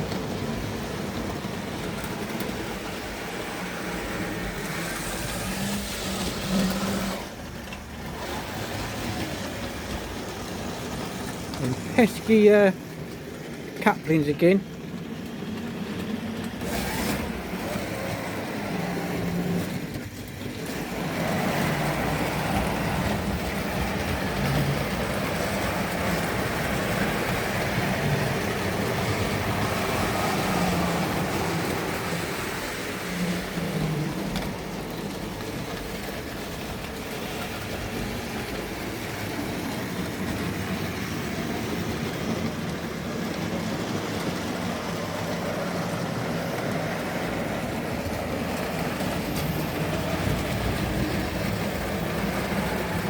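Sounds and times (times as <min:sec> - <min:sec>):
model trains running on track: 0:00.0 - 0:53.0.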